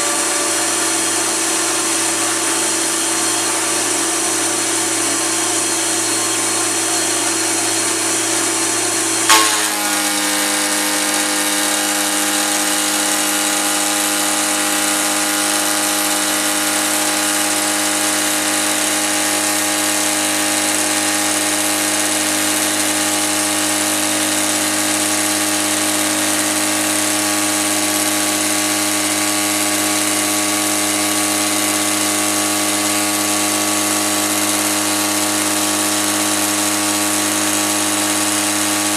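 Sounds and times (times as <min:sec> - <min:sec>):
milling machine cutting whine: 0:00.0 - 0:38.9.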